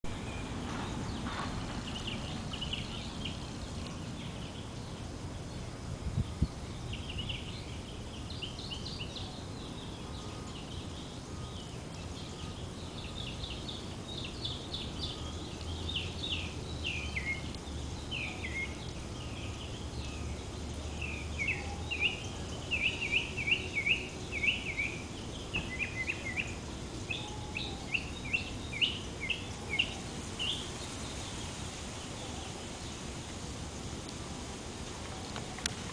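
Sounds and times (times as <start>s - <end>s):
songbirds chirping: 0.0s - 35.9s
low steady hum: 0.1s - 35.9s.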